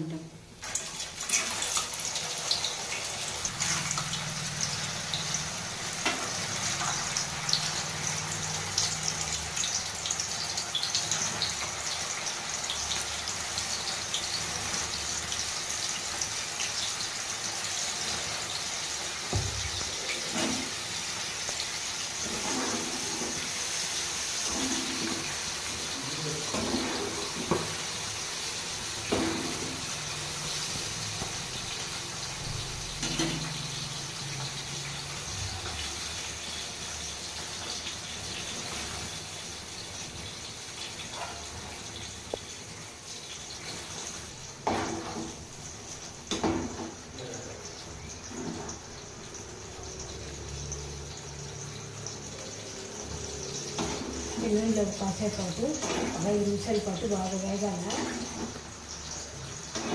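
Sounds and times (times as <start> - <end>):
beans deep-frying in oil: 0.0 - 59.9.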